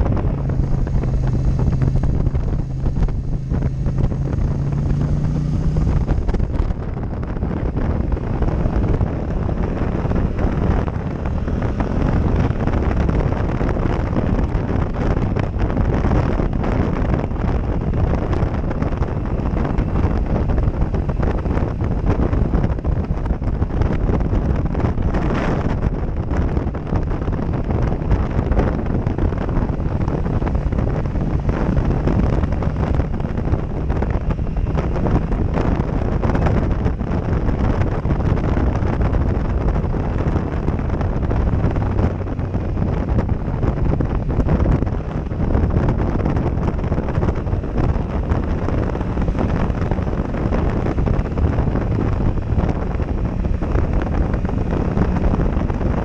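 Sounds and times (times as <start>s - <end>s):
motorcycle engine cruising: 0.0s - 56.0s
wind buffeting microphone: 0.0s - 56.0s.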